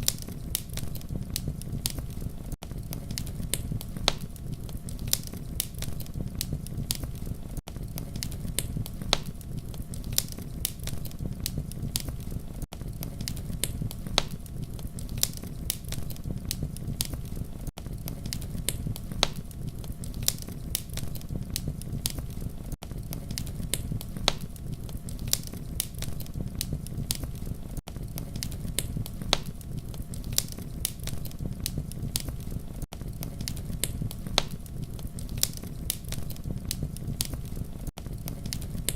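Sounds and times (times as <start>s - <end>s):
campfire crackling and popping: 0.0s - 38.9s
low rumble of burning: 0.0s - 38.9s.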